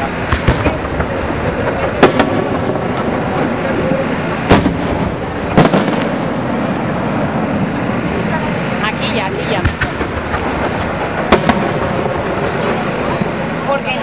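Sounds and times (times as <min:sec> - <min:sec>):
fireworks exploding in sharp bangs: 0:00.0 - 0:08.8, 0:09.4 - 0:14.0
steady background noise: 0:00.0 - 0:14.0.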